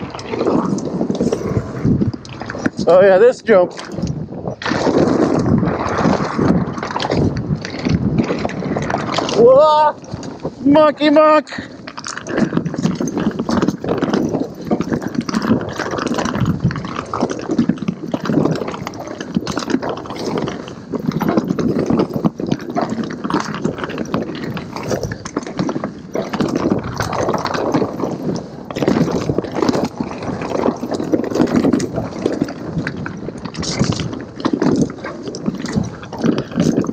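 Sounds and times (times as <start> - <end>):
bike chain and frame rattling: 0.0 - 36.9
tyres crunching over dirt: 0.0 - 36.9.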